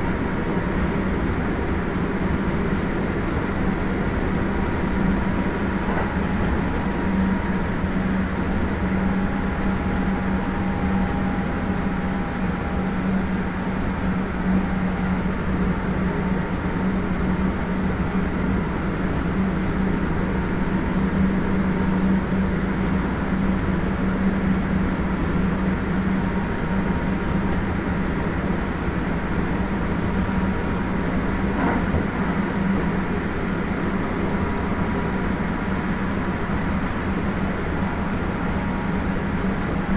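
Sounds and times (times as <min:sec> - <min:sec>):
constant low hum: 0:00.0 - 0:39.9
train wheel-on-rail rumble: 0:00.0 - 0:39.9.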